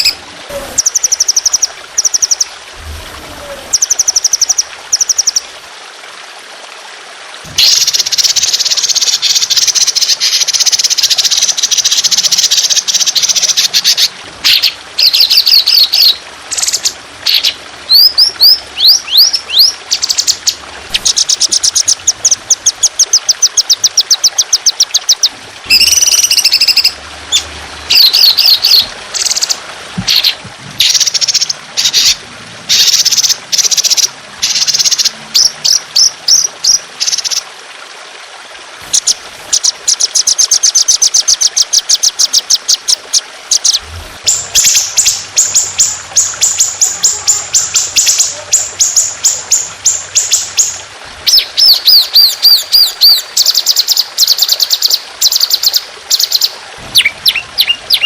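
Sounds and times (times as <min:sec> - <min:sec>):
trickle of water: 0:00.0 - 0:58.0
songbird singing rapid trills: 0:00.8 - 0:02.5, 0:07.6 - 0:37.4, 0:39.0 - 0:58.0.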